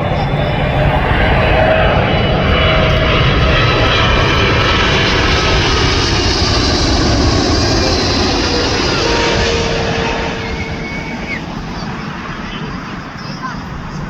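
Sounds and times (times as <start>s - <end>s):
jet airliner passing overhead: 0.0s - 14.0s
jet engine whining tone: 0.0s - 14.0s.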